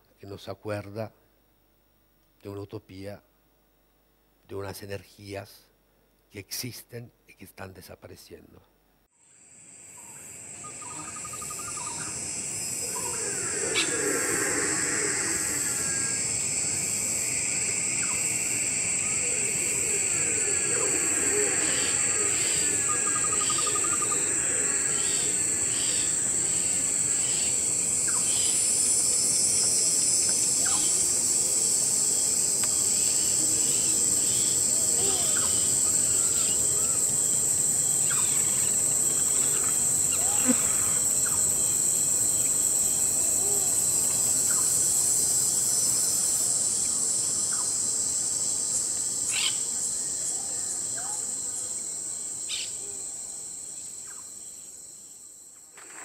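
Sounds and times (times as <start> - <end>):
high-pitched insect chorus: 9.2 - 56.0.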